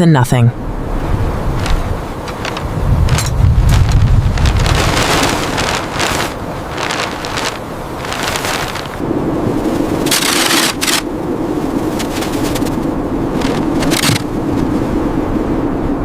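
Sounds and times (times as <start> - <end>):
gusty wind: 0.4 - 16.0.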